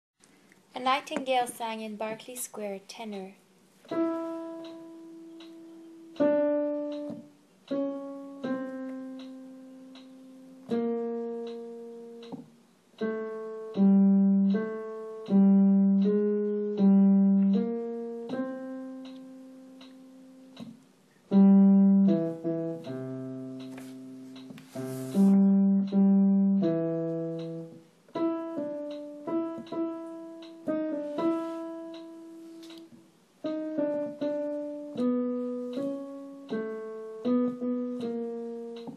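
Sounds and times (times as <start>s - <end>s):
piano single notes: 3.9s - 38.9s.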